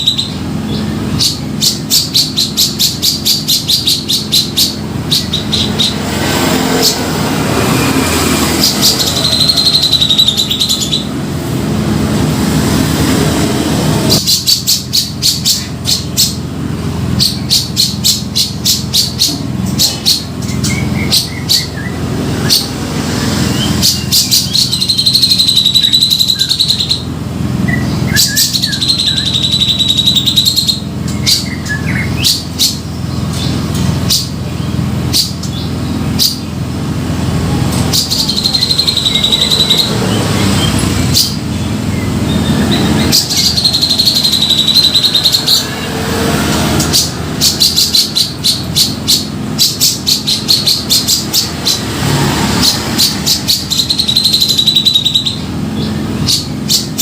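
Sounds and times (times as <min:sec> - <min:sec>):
bulbul trilled calls: 0:00.0 - 0:11.2, 0:14.1 - 0:16.5, 0:17.1 - 0:27.1, 0:27.7 - 0:37.0, 0:37.7 - 0:57.0
steady low hum: 0:00.0 - 0:52.0.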